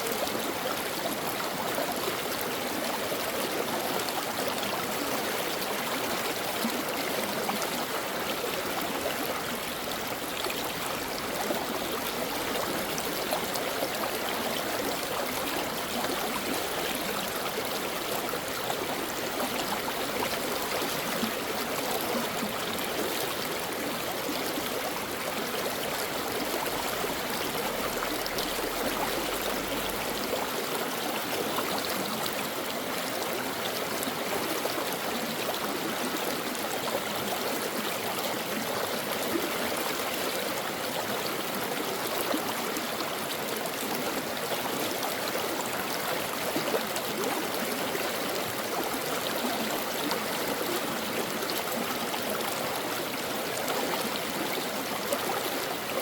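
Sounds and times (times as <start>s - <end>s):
brook water running over rocks: 0.0s - 56.0s.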